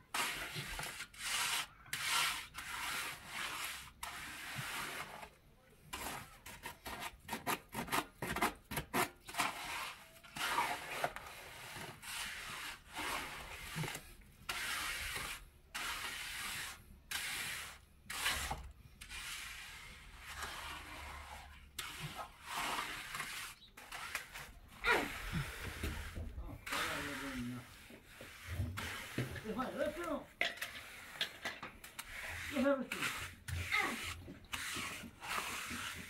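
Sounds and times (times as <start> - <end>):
trowel scraping wet cement: 0.0 - 36.0.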